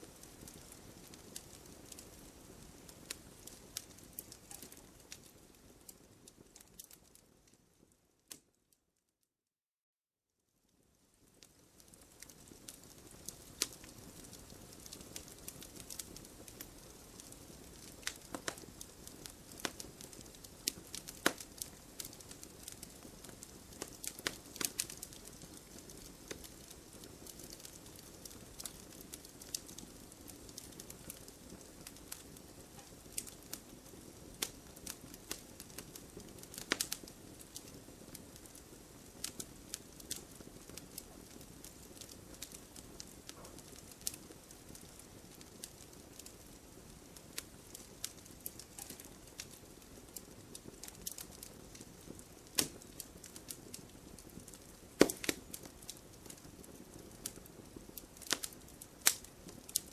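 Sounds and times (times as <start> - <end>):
bonfire crackling: 0.0 - 8.6, 10.7 - 59.9.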